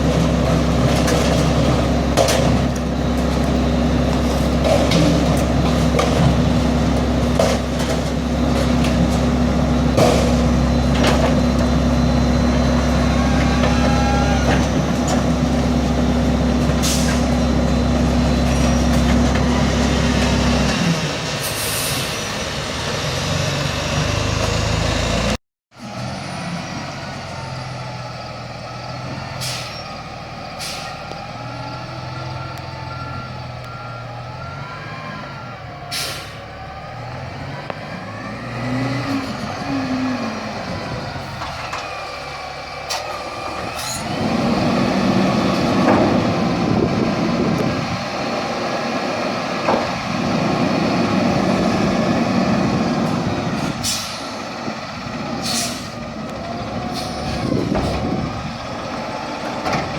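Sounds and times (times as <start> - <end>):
garbage truck engine running: 0.0 - 21.4, 23.9 - 59.9
distant truck: 0.0 - 59.9.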